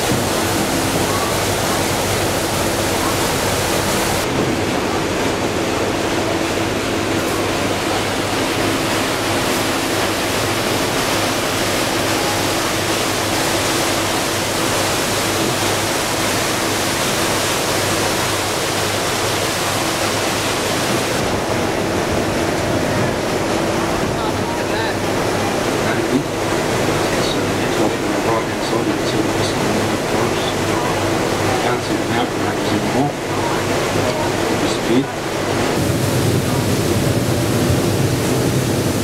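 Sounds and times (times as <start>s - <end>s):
low engine hum: 0.0s - 39.0s
water rushing from boat hull: 0.0s - 39.0s.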